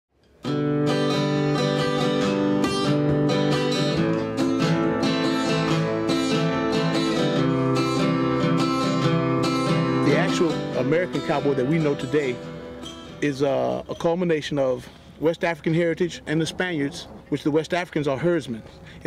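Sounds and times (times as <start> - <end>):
strummed acoustic guitar: 0.2 - 15.9.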